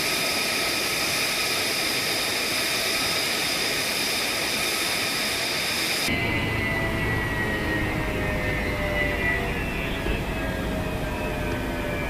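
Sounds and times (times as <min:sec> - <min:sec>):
jet engine running with whine: 0:00.0 - 0:12.0.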